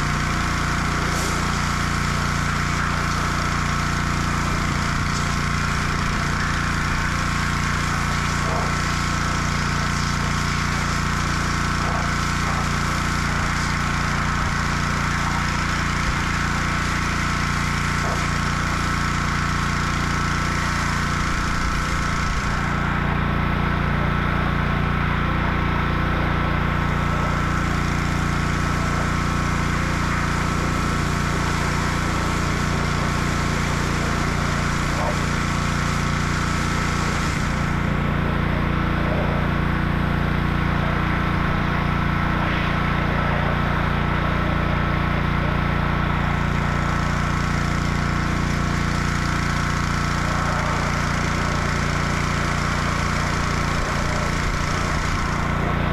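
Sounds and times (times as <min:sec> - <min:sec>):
pressure washer engine running: 0:00.0 - 0:55.9.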